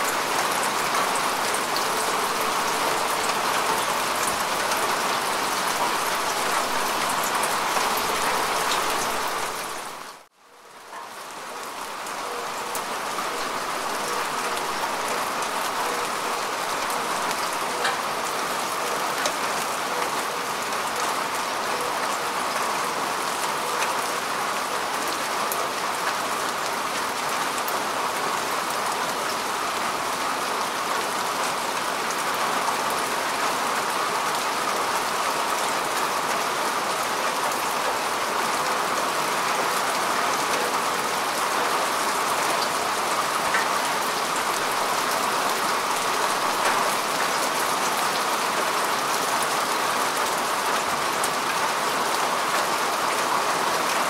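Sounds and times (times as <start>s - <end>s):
rain falling on grass: 0.0s - 54.0s.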